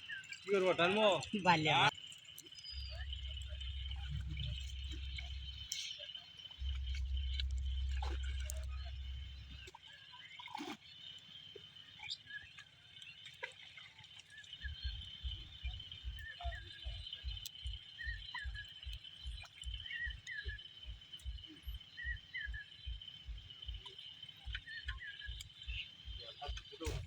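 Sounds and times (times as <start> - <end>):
high insect drone: 0.0 - 13.1, 14.3 - 27.0
bird chirps: 0.0 - 27.0.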